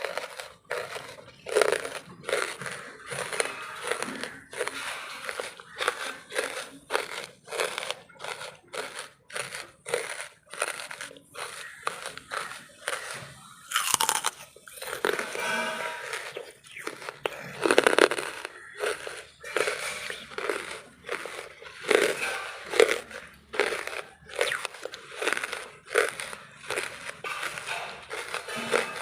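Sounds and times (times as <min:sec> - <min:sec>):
person chewing charcoal crunching: 0:00.0 - 0:29.0.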